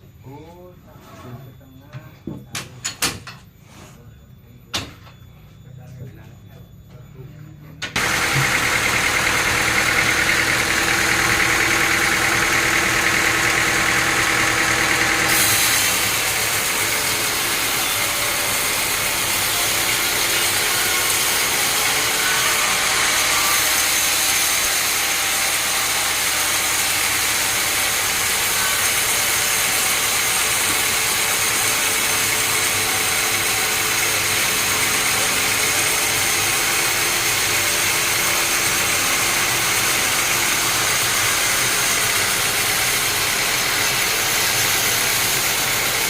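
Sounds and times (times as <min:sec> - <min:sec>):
sawmill machinery humming: 0:08.0 - 0:46.0.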